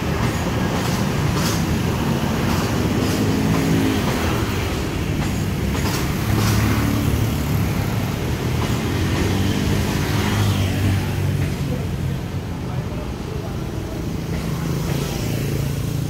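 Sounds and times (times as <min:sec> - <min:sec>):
train cars rumbling past: 0:00.0 - 0:16.0
wheels clacking over rail joints: 0:00.0 - 0:16.0.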